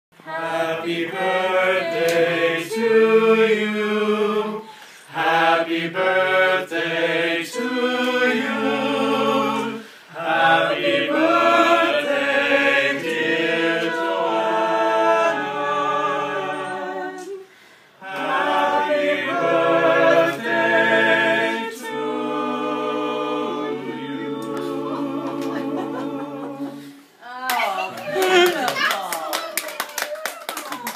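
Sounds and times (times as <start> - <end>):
group singing a cappella: 0.2 - 27.2.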